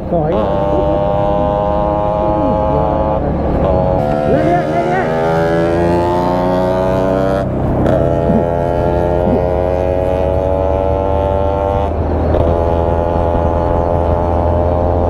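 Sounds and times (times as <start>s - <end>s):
motorcycle engine droning: 0.0s - 15.0s.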